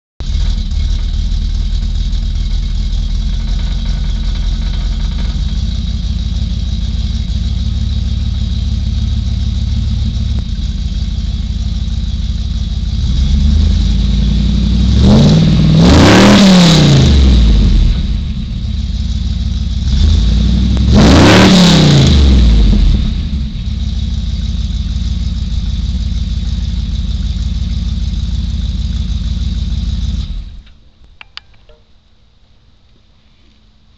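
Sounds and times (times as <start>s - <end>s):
car engine idling and revving: 0.2s - 30.9s.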